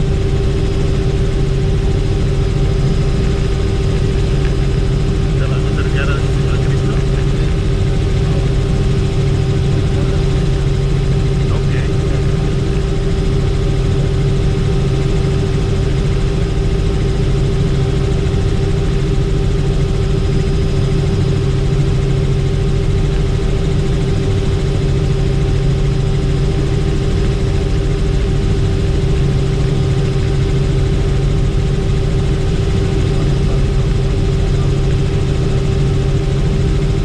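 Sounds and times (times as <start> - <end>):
helicopter engine and rotors: 0.0 - 37.0.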